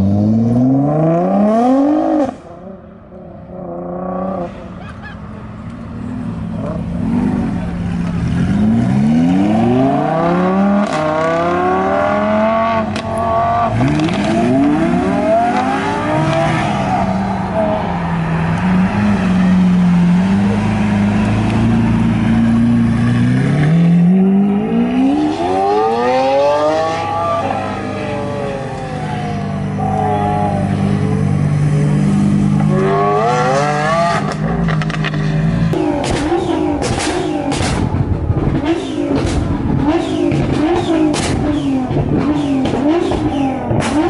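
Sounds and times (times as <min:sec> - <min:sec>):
car engines accelerating hard: 0:00.0 - 0:44.0.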